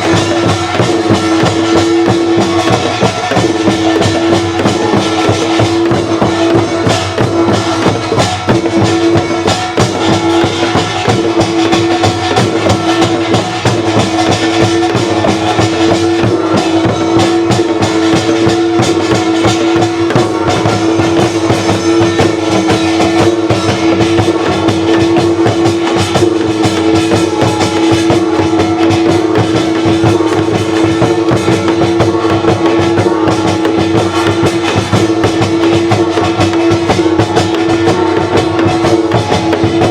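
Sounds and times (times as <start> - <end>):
fast folk percussion: 0.0 - 39.9.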